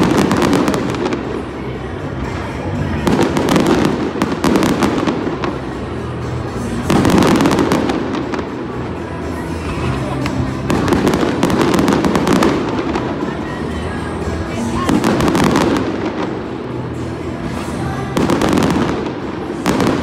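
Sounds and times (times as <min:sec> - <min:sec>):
fireworks bursting and crackling: 0:00.0 - 0:20.0
music playing: 0:00.0 - 0:20.0.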